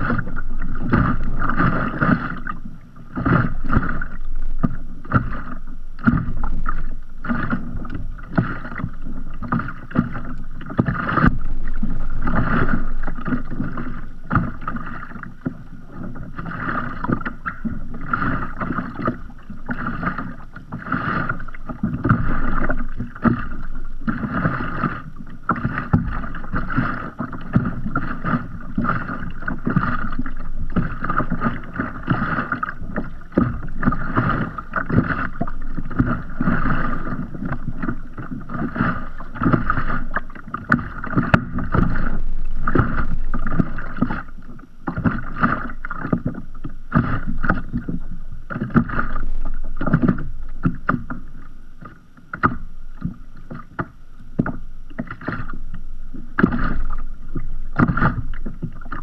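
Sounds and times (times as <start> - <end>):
waves lapping against kayak hull: 0.0 - 59.0.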